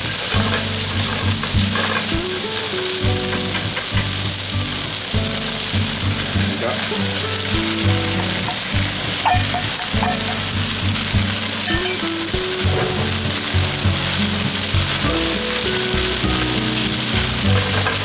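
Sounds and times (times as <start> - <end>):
low background music: 0.0 - 18.0
stir-fry sizzling in hot oil: 0.0 - 18.0.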